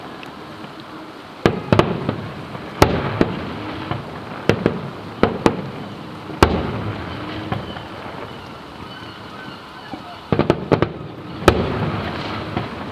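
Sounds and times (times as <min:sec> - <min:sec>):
fireworks bangs with rumbling echo: 0:01.4 - 0:12.9.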